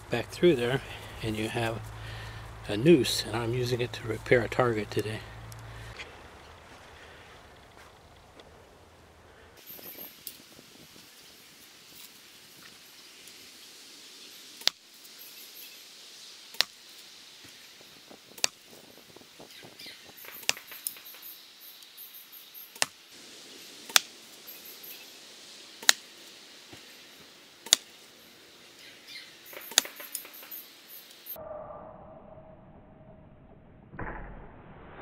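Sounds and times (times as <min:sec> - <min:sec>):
rustling in dry leaves: 0:00.0 - 0:31.4.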